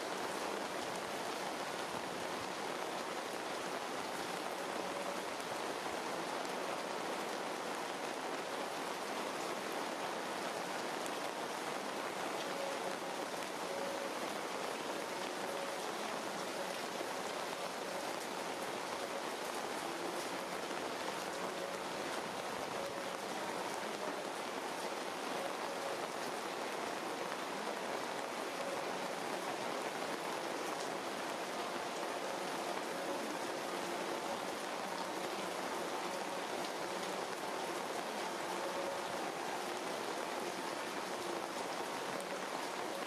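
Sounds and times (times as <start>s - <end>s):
rain falling on leaves: 0.0s - 43.0s.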